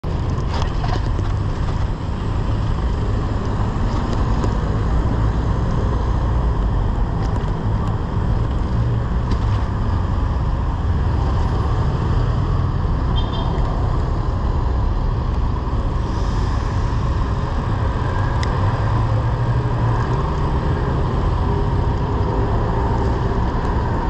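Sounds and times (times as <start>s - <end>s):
car traffic rumble: 0.0s - 24.0s.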